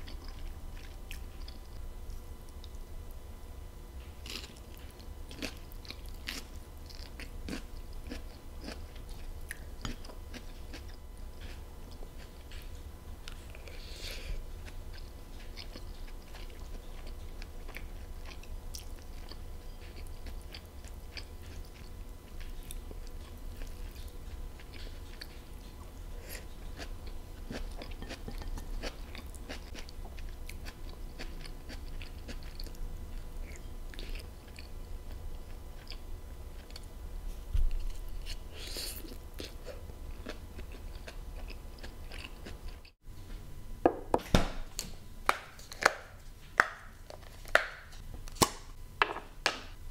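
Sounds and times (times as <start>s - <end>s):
chewing and biting soft food: 0.0s - 3.2s, 4.0s - 43.0s.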